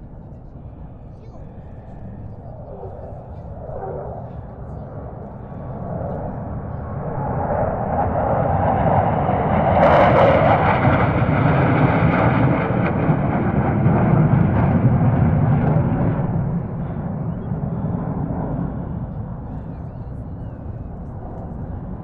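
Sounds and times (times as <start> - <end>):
military aircraft flying past: 0.0 - 22.0.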